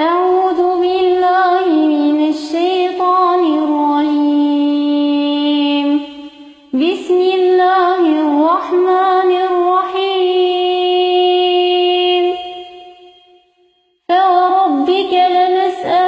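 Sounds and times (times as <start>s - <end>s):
woman chanting recitation: 0.0s - 12.7s, 14.1s - 16.0s.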